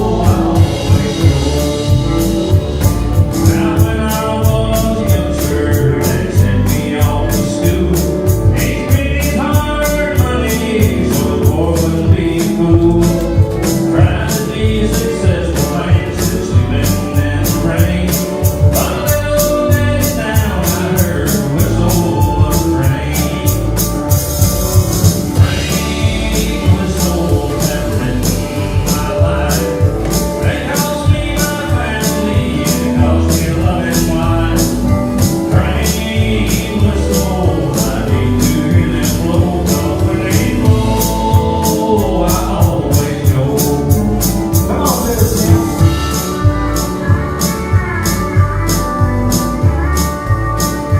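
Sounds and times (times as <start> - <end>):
country band playing: 0.0 - 50.9
drum beat: 0.0 - 50.9
man singing: 0.0 - 50.9.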